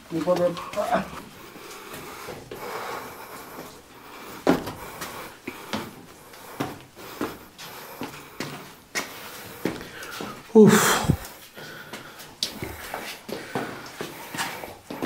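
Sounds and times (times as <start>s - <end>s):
footsteps on rocky cave floor: 0.0s - 15.0s.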